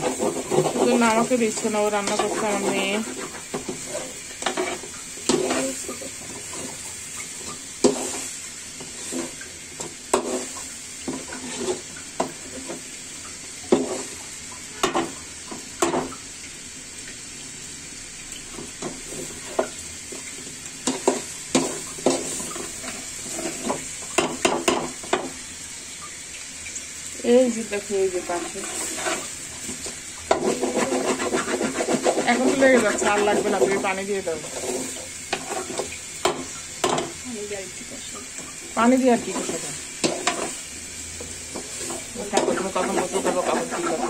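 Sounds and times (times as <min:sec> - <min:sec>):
metal utensil scraping pan: 0:00.0 - 0:12.9, 0:13.6 - 0:16.1, 0:18.6 - 0:25.4, 0:27.6 - 0:44.0
food sizzling in oil: 0:00.0 - 0:44.0.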